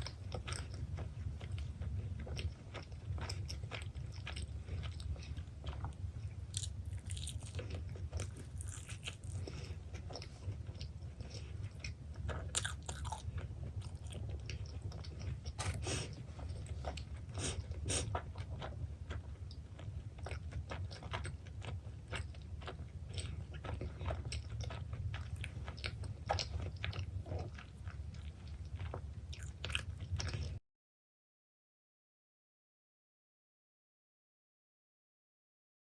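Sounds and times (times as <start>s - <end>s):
biting and chewing pizza: 0.0s - 30.6s
steady low hum: 0.0s - 30.6s.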